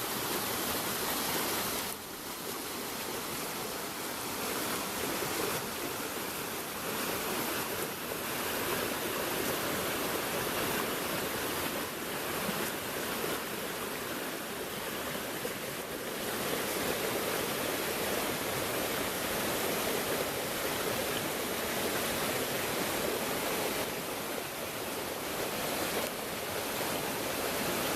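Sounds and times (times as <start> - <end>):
waterfall rushing and splashing: 0.0 - 27.9.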